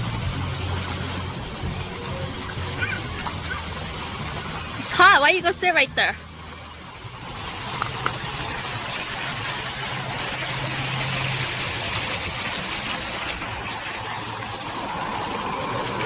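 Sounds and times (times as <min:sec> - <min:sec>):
water fountain splashing: 0:00.0 - 0:16.0.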